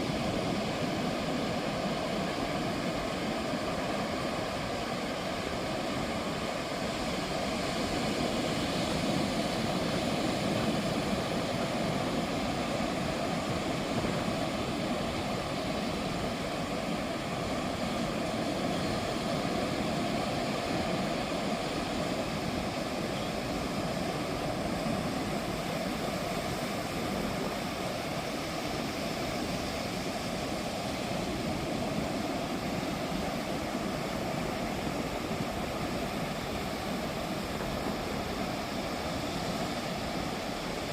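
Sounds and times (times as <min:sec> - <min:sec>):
ocean surf on a beach: 0:00.0 - 0:40.9.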